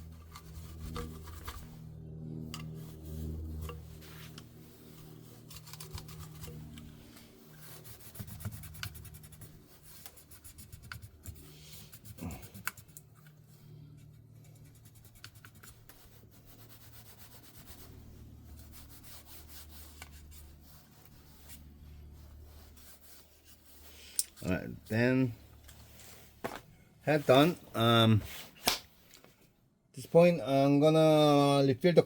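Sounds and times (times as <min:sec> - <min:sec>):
low steady hum: 0:00.0 - 0:29.3
hands rubbing and scratching: 0:00.1 - 0:26.5, 0:27.2 - 0:29.3.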